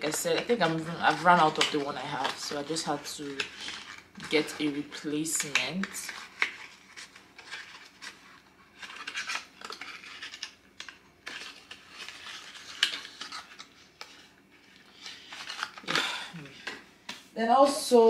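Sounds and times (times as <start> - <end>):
packaging rustling: 0.0 - 16.9.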